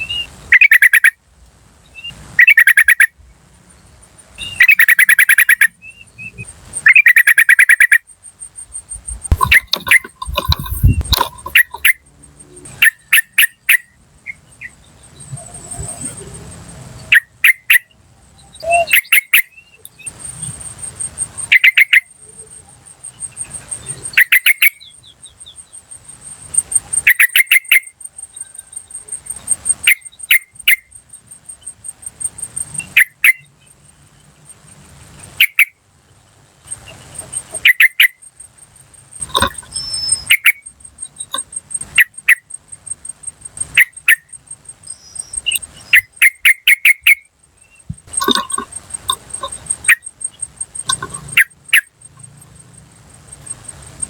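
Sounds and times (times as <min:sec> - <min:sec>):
bird chattering calls: 0:00.0 - 0:01.2, 0:02.0 - 0:03.1, 0:04.4 - 0:08.1, 0:08.7 - 0:18.0, 0:18.6 - 0:31.0, 0:32.4 - 0:33.5, 0:35.2 - 0:35.8, 0:36.7 - 0:38.3, 0:39.1 - 0:54.0
insect trilling: 0:04.4 - 0:05.8, 0:06.4 - 0:17.9, 0:18.5 - 0:35.8, 0:36.6 - 0:54.0.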